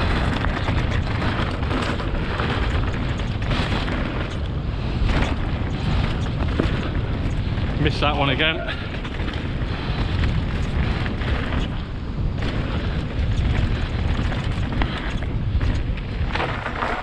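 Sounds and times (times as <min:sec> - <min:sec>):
bike clicking and knocking: 0:00.0 - 0:17.0
tyres on dirt: 0:00.0 - 0:17.0
wind buffeting microphone: 0:00.0 - 0:17.0.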